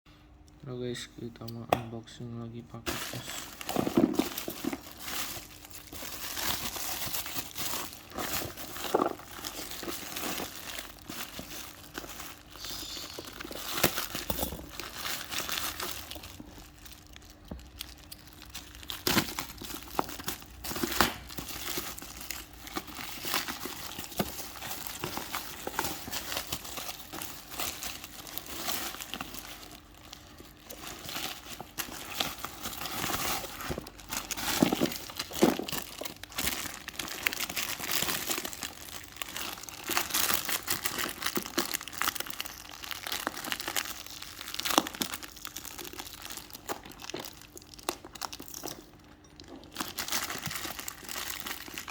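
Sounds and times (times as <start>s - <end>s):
packaging crinkling: 2.7s - 51.9s
packaging ripping: 2.8s - 48.9s, 49.6s - 51.9s.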